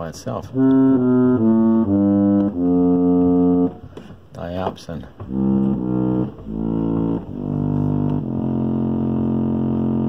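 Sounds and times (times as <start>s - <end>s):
reed pump organ playing chords: 0.5s - 3.8s, 5.2s - 10.0s.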